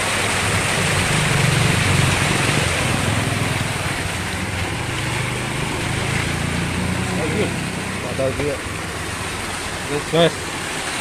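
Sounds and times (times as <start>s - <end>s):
stream water pouring down cascade: 0.0s - 11.0s.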